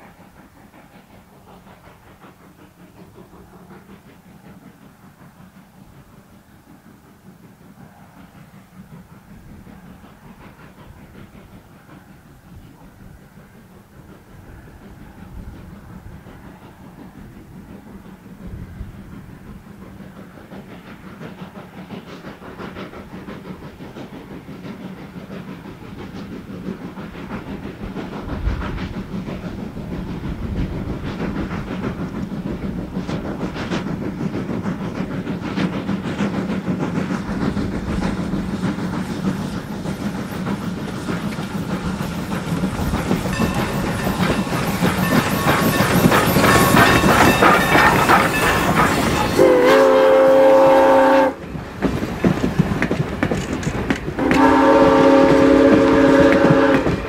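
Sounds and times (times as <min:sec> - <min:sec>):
steam locomotive exhaust beats: 0:00.0 - 0:57.0
train wheel clatter: 0:00.0 - 0:57.0.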